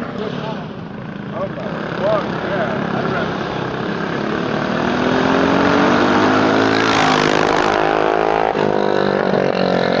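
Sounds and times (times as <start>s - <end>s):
small engine revving: 1.6s - 10.0s.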